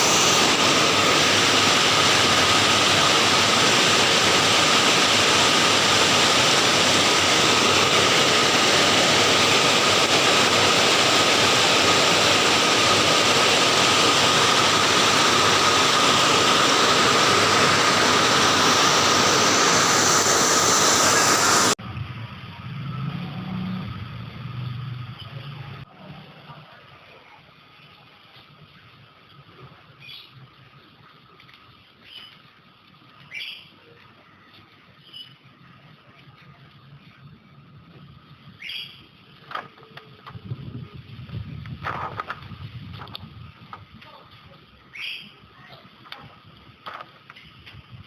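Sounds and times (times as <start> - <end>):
rushing hiss of rain: 0.0 - 48.0.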